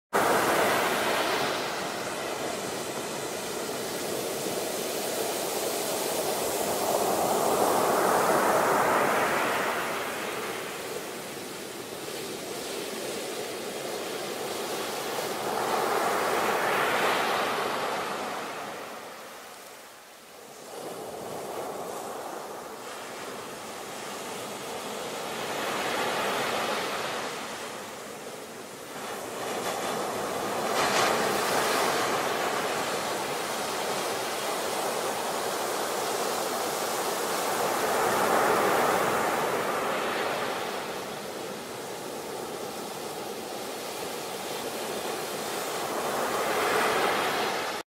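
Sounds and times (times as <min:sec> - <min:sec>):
ocean waves breaking: 0:00.2 - 0:47.8.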